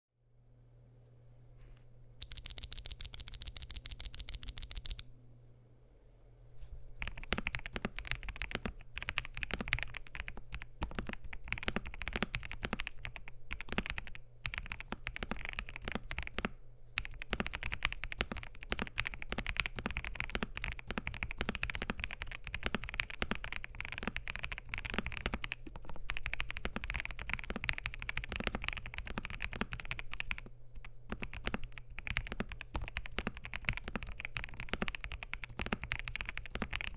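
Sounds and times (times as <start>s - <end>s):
keyboard keystrokes: 2.2s - 5.0s, 7.0s - 36.9s
rapid sharp clicks: 2.2s - 5.0s, 7.0s - 36.9s.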